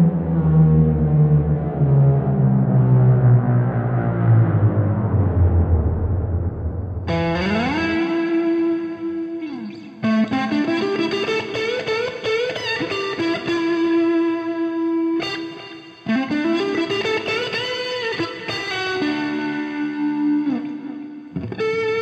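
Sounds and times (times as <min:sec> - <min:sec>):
electric guitar with sliding notes: 0:00.0 - 0:22.0.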